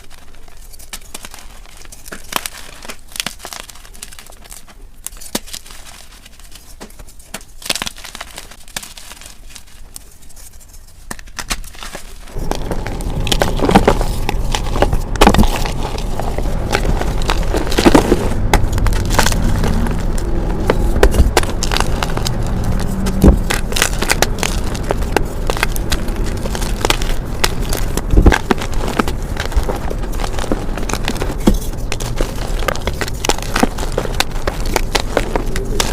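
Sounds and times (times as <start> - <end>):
chalk being crushed: 0.0 - 35.9.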